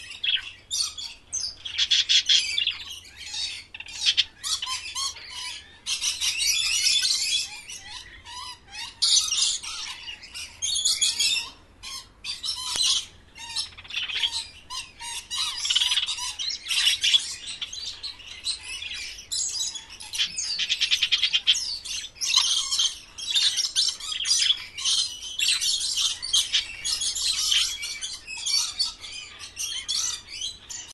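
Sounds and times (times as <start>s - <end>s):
parrots chirping and squawking: 0.0s - 30.9s.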